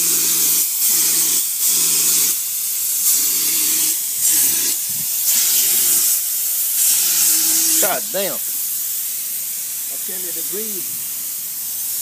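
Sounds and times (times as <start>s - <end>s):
spray gun air hiss: 0.0s - 12.0s.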